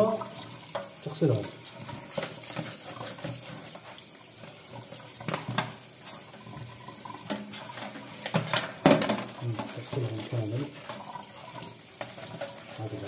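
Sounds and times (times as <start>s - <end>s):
splashes and knocks of filter: 0.0s - 13.0s
tap water running into sink: 0.0s - 13.0s.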